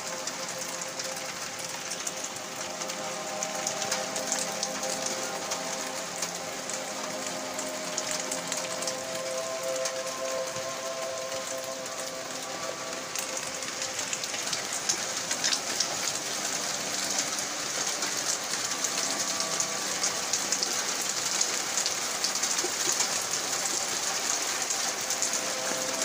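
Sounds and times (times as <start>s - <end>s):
rain and small hail falling: 0.0s - 26.0s.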